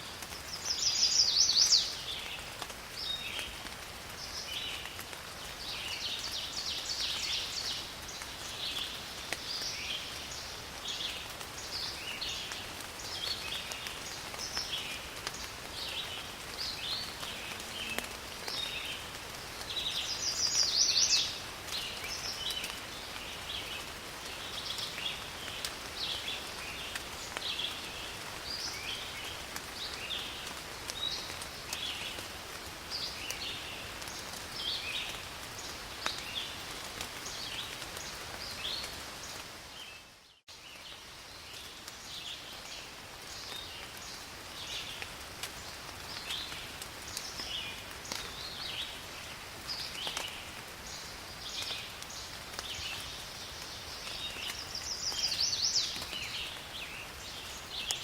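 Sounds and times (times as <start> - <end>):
rain falling in forest: 0.0 - 58.0.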